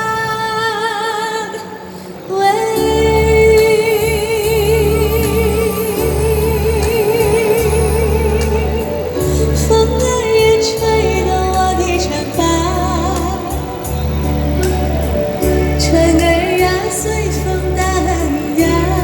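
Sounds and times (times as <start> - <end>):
woman singing pop song: 0.0 - 19.0
pulsing bass beat: 3.0 - 19.0.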